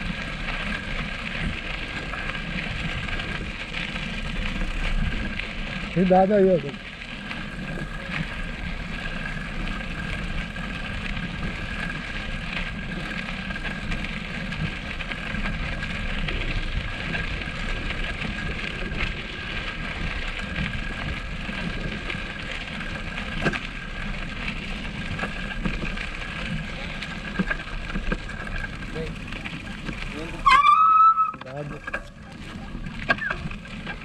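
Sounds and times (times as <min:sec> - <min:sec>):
bicycle crunching over stony track: 0:00.0 - 0:34.0.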